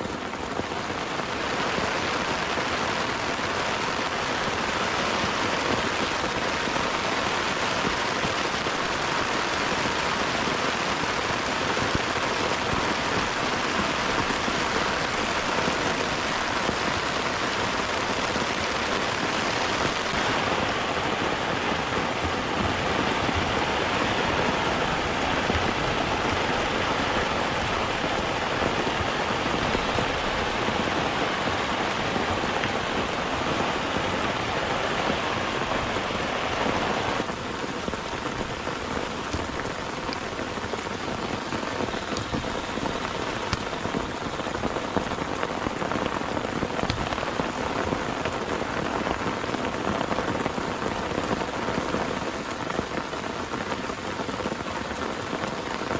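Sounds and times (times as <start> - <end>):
heavy rain falling: 0.0 - 55.9
raindrops ticking: 0.0 - 55.9.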